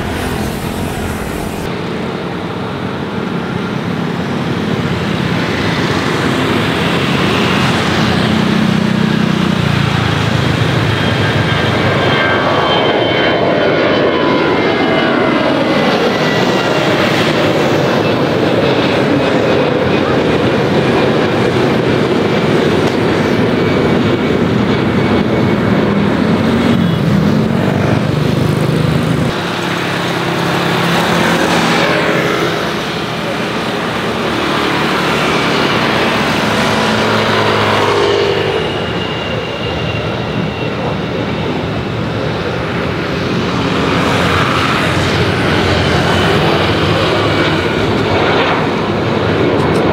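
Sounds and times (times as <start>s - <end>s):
jet engines passing close by: 0.0s - 49.9s.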